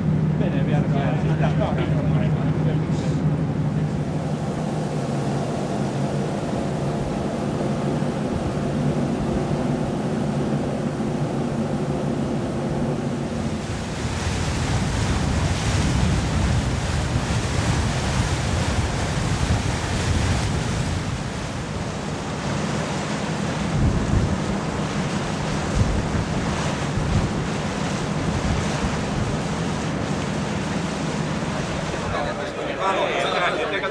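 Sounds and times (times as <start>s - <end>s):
sea surf: 0.0s - 33.9s.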